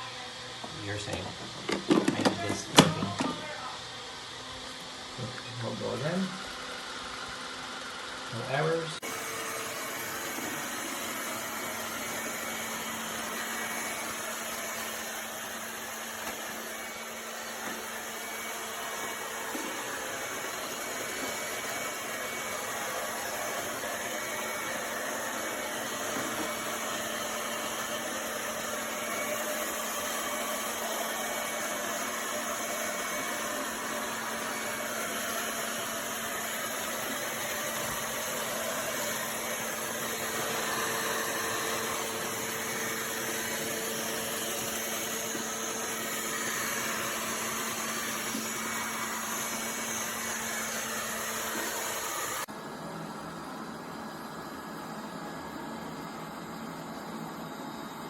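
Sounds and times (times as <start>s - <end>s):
robot vacuum whirring: 5.7s - 52.5s.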